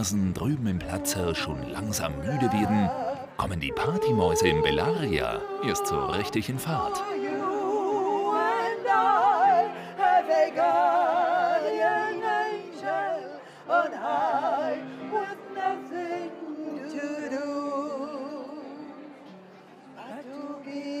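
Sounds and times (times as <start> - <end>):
women singing a duet: 0.8 - 19.0.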